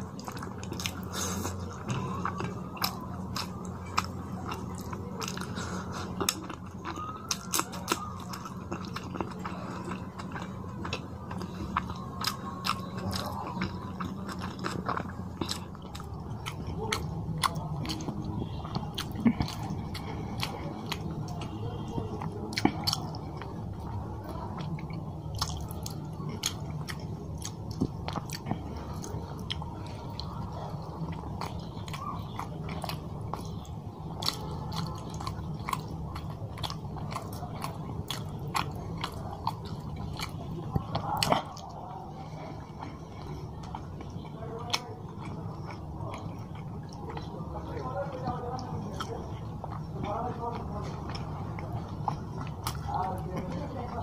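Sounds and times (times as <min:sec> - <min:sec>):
close chewing with wet mouth clicks: 0:00.0 - 0:54.0
steady low hum: 0:00.0 - 0:54.0.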